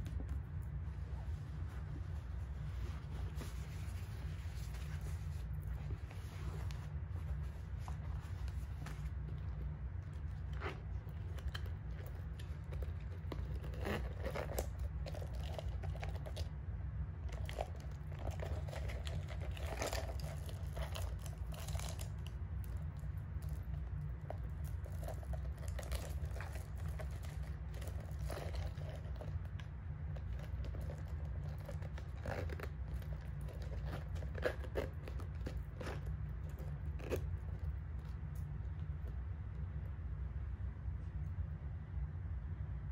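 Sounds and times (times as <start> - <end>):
low steady hum: 0.0 - 42.9
leather case rustling: 0.1 - 16.4, 17.3 - 22.1, 23.4 - 29.5, 30.1 - 37.9.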